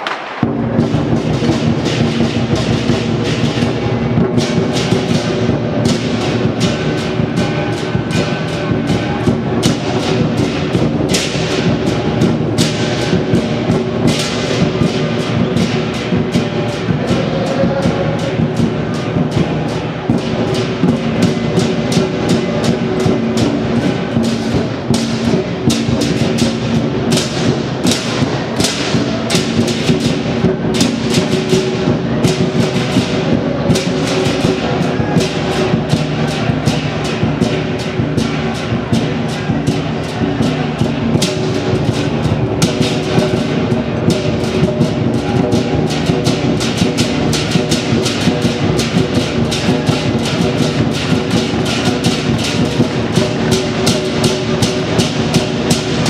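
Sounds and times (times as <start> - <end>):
cymbals clashing: 0.0 - 56.0
large drum beating: 0.0 - 56.0.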